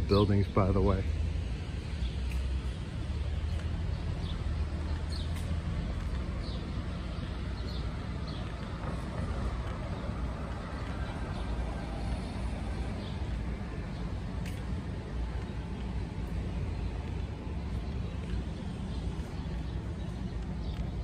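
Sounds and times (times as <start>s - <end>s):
vehicles driving along street: 0.0s - 21.0s.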